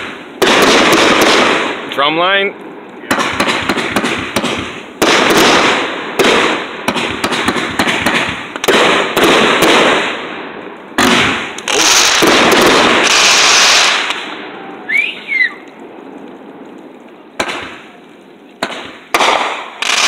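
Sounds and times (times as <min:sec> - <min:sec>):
firework cake firing: 0:00.0 - 0:20.0.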